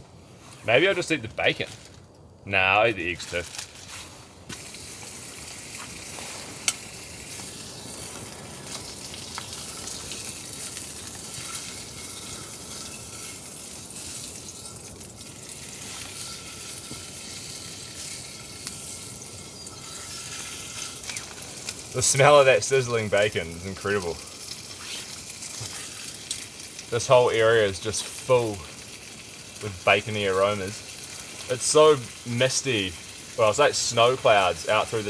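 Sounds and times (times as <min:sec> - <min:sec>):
bacon sizzling in a frying pan: 0:03.0 - 0:35.0.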